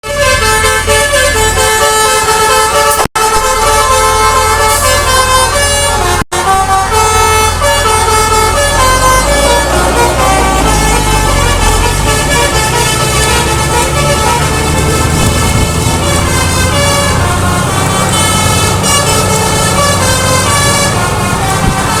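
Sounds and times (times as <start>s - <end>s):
bus air horn melody: 0.0s - 22.0s
low engine rumble: 0.0s - 22.0s.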